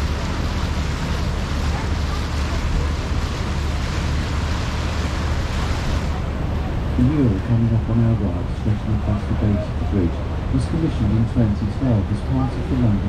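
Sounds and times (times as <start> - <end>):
boat engine drone: 0.0 - 13.0
water rushing past hull: 0.0 - 13.0.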